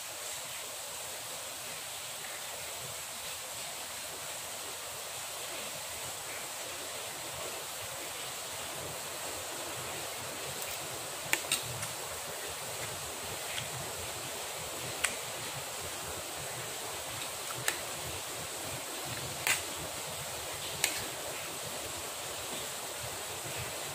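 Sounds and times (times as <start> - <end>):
steady rain hiss: 0.0 - 23.9.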